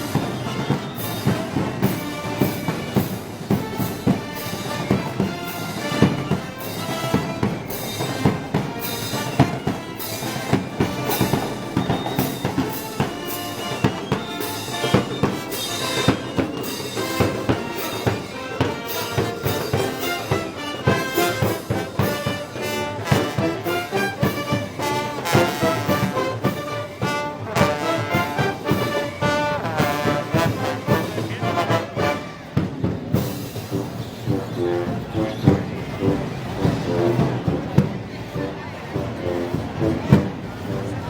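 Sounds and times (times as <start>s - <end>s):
brass band playing: 0.0s - 41.0s
steady drum beat: 0.0s - 41.0s
trumpets: 0.0s - 41.0s.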